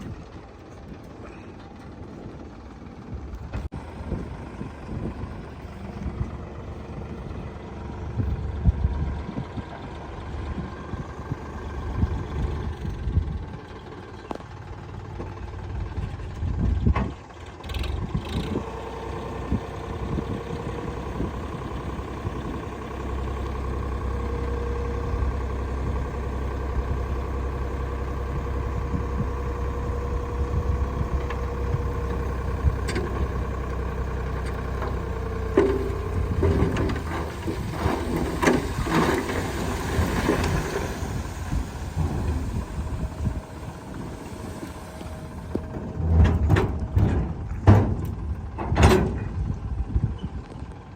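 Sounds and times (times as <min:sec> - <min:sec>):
diesel engine drone: 0:00.0 - 0:50.9.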